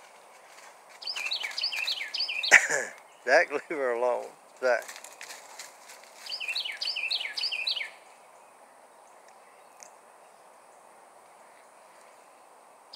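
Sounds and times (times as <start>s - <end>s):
faint outdoor hiss: 0.0s - 12.9s
songbird singing: 0.0s - 12.9s.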